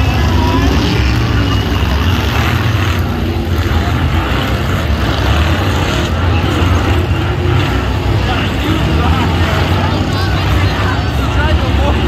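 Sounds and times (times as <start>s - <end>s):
off-road car engines rumbling: 0.0s - 12.0s.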